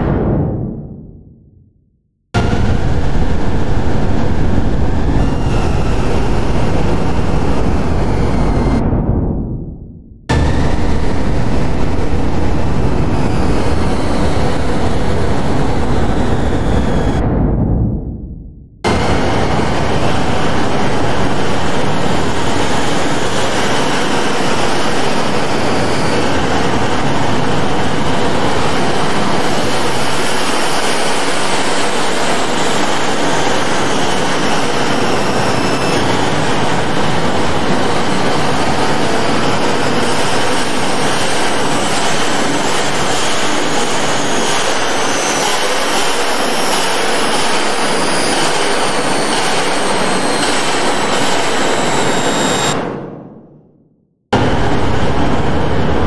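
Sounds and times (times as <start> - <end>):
electronic noise music: 2.4 - 17.6, 18.8 - 52.8.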